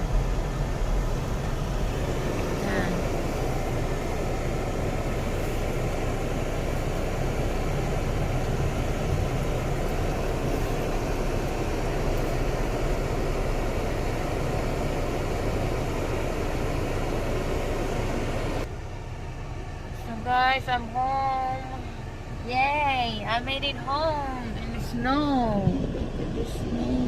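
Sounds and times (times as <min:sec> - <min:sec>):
car engine running: 0:00.0 - 0:27.0
rushing noise inside a car: 0:00.0 - 0:27.0.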